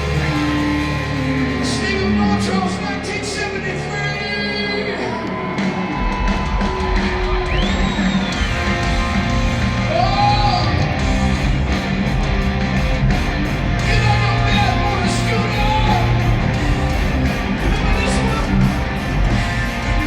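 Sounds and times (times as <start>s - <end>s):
live rock band playing: 0.0s - 3.1s, 5.1s - 20.0s.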